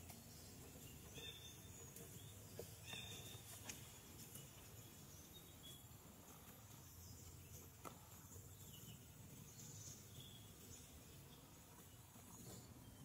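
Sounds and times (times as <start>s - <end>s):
faint forest ambience: 0.0s - 13.0s.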